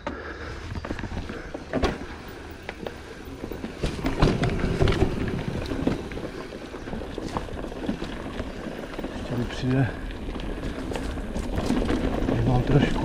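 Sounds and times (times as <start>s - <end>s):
bike clattering over bumps: 0.0s - 13.0s
bike tyre rumble on dirt: 0.1s - 13.0s.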